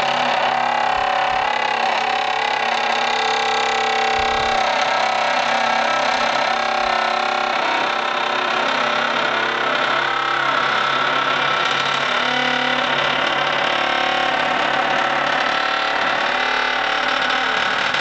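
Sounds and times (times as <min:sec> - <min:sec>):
stone door grinding: 0:00.0 - 0:18.0.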